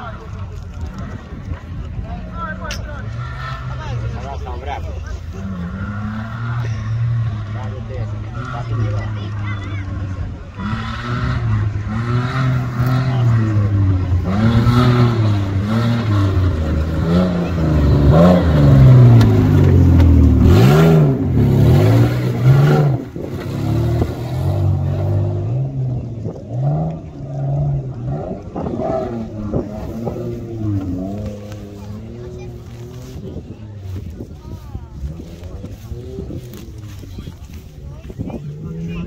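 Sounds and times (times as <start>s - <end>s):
off-road vehicle engine revving: 0.0s - 39.0s.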